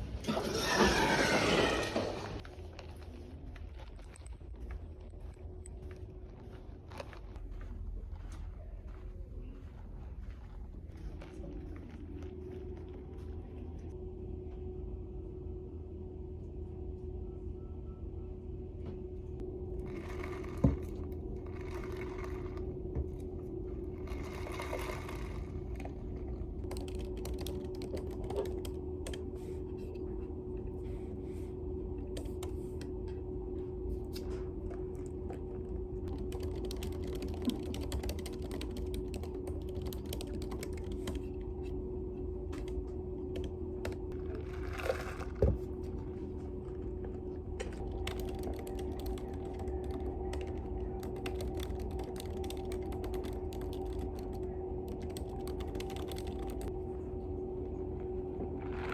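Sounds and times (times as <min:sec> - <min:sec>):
steady low hum: 0:00.0 - 0:58.9.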